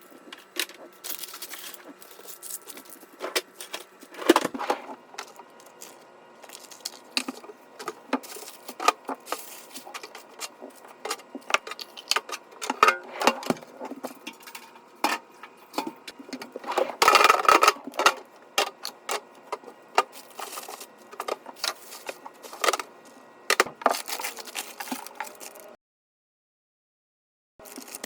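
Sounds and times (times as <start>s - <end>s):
containers clicking and knocking: 0.2s - 25.7s.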